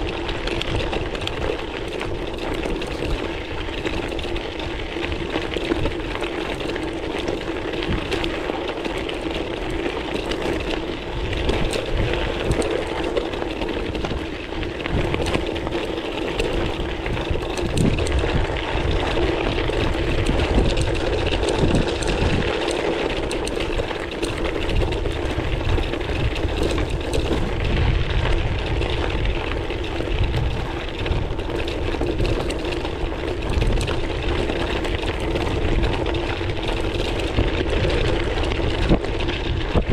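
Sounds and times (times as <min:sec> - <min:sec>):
bike tyres crunching on gravel: 0:00.0 - 0:39.9
wind rumble on microphone: 0:00.0 - 0:39.9.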